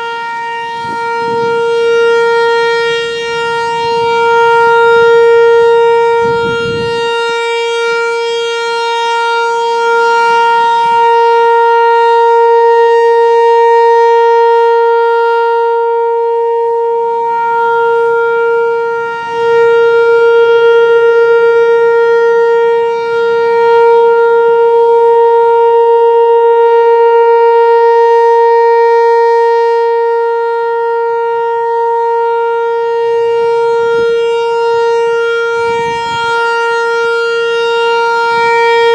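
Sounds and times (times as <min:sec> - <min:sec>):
outdoor warning siren steady tone: 0:00.0 - 0:38.9.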